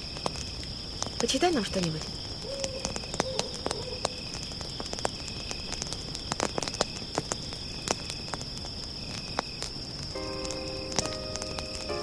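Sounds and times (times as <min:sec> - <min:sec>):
campfire crackling and popping: 0:00.0 - 0:12.0
insects chirring: 0:00.0 - 0:12.0.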